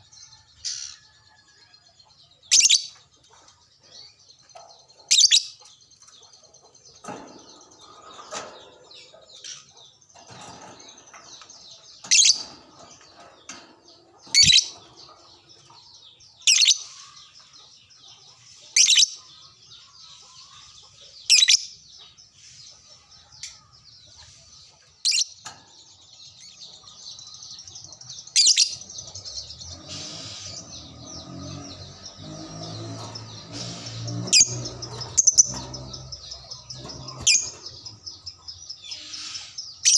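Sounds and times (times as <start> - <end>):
lovebirds chattering: 2.0 - 39.9.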